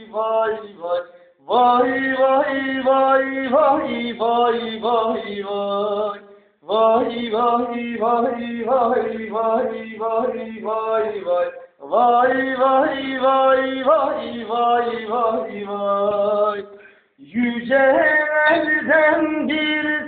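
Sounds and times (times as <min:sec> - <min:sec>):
man chanting unaccompanied: 0:00.0 - 0:20.0.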